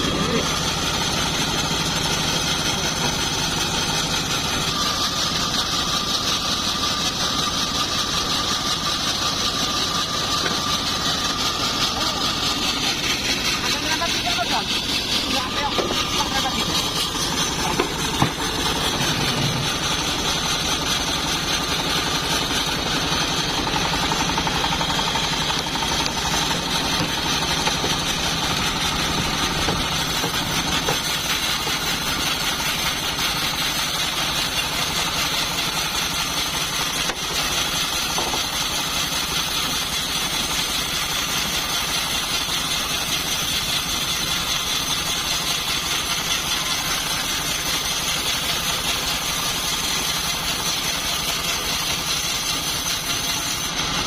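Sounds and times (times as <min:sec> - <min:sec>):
bandsaw sawmill droning: 0:00.0 - 0:54.0.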